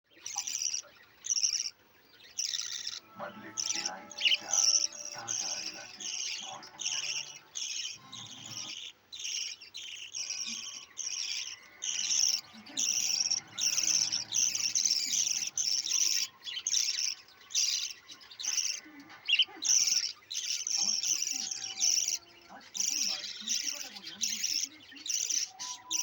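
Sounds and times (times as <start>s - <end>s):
budgerigars chirping: 0.1s - 26.0s.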